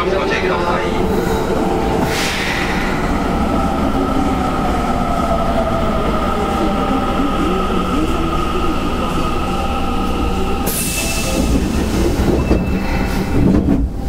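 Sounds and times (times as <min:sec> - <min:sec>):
train equipment humming: 0:00.0 - 0:14.0.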